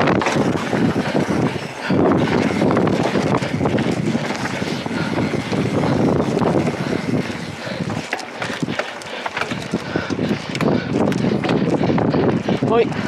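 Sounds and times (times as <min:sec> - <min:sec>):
bike rattling over bumps: 0:00.0 - 0:13.0
tyre noise and wind: 0:00.0 - 0:13.0.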